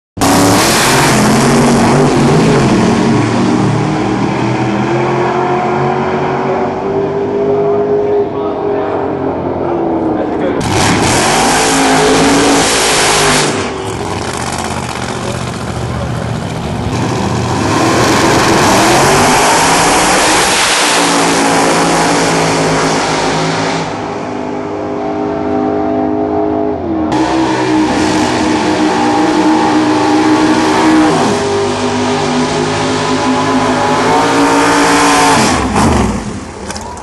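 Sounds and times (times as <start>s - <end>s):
car engine revving during burnout: 0.2s - 9.1s, 9.7s - 36.6s
drag car engine accelerating: 0.2s - 37.0s.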